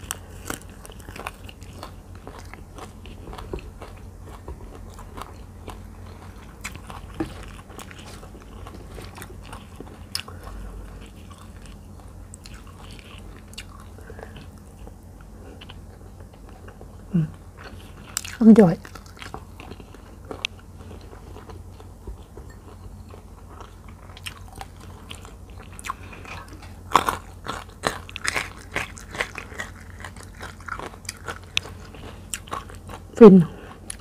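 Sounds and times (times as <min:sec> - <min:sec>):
chewing with small crunches: 0:00.0 - 0:34.0.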